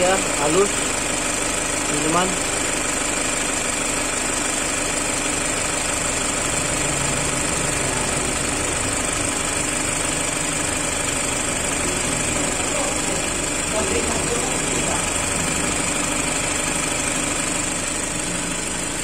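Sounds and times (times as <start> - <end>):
car engine idling: 0.0 - 19.0
radiator fan spinning: 0.0 - 19.0.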